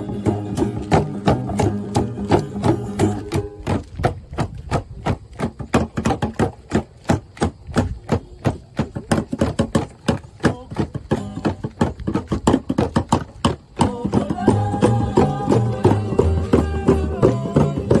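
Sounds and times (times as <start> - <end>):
hand drums beaten fast: 0.0 - 18.0.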